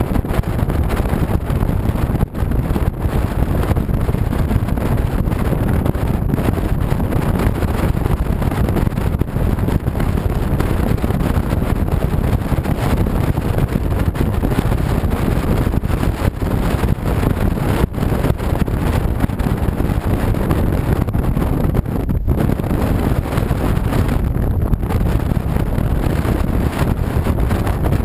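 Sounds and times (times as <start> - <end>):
motorcycle road noise: 0.0 - 28.0
wind buffeting microphone: 0.0 - 28.0.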